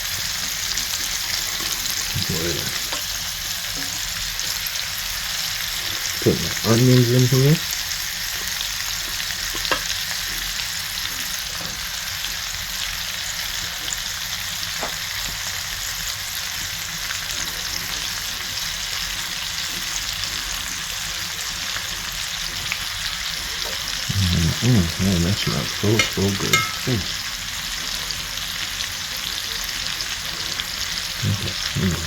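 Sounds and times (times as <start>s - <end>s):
meat and onions sizzling in pan: 0.0s - 32.0s.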